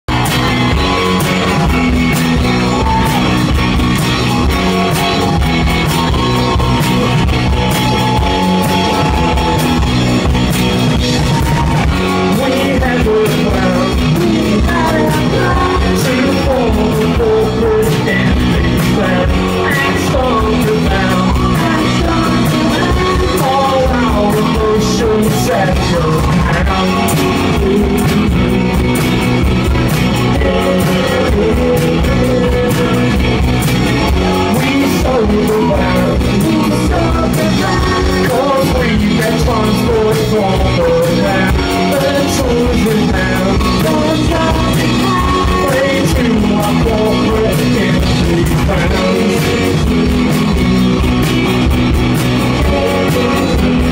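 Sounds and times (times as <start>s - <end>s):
drums: 0.0s - 53.9s
electric guitar: 0.0s - 53.9s
person singing: 0.1s - 29.0s, 29.6s - 50.8s, 52.2s - 53.9s.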